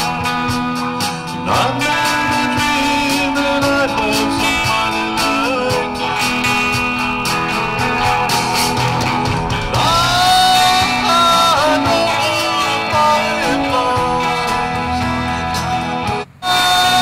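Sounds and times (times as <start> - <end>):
rock music with guitars: 0.0 - 17.0
sliding lead melody: 0.0 - 17.0.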